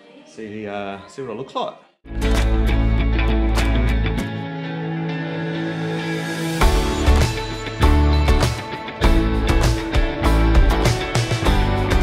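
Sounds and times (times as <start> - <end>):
background music with held chords: 2.1 - 12.0.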